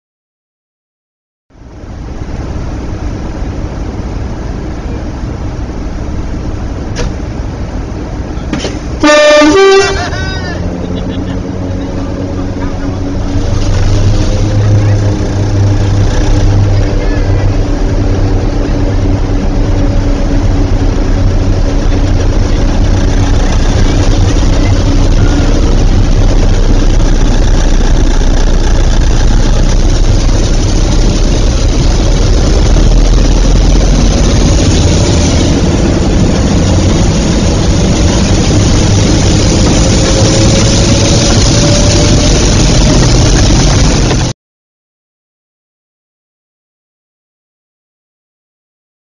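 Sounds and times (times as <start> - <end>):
diesel locomotive engine running: 1.5 - 44.4.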